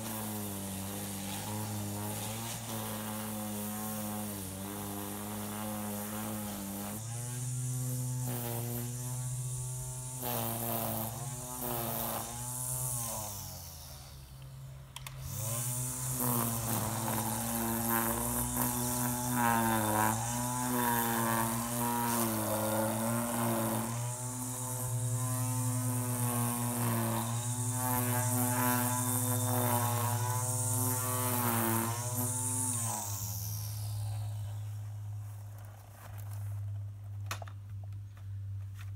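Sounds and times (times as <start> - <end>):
electric string trimmer whirring: 0.0 - 38.9.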